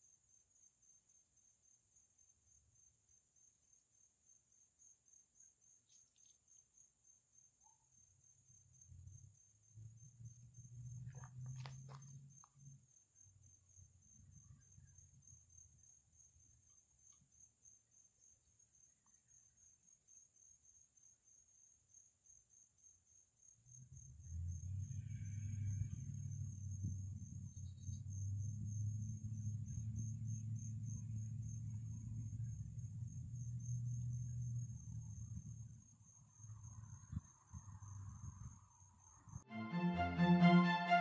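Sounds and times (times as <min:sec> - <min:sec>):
insects chirping: 0:00.0 - 0:39.5.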